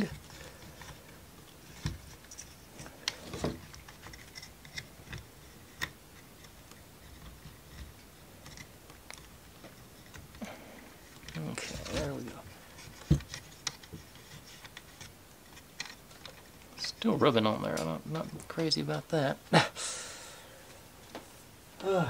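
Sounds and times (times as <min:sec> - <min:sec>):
wooden parts clicking and tapping: 0:00.0 - 0:19.5.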